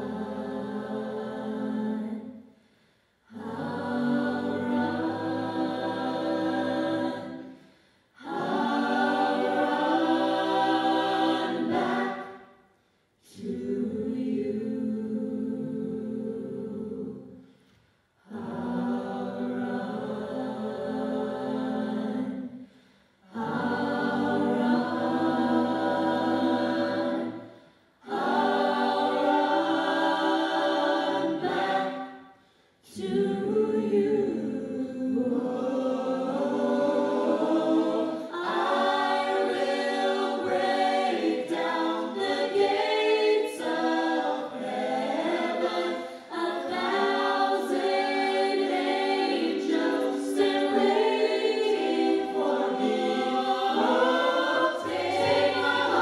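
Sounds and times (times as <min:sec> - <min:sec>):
vocal ensemble singing in harmony: 0:00.0 - 0:56.0.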